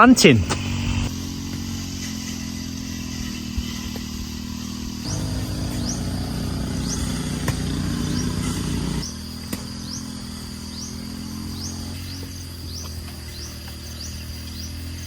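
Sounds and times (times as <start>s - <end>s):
small petrol engine running: 1.1s - 14.2s.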